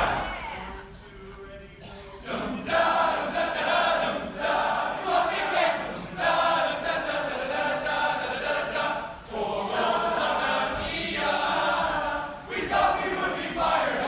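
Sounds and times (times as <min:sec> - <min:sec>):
group singing in unison: 0:00.0 - 0:01.0, 0:01.9 - 0:14.0.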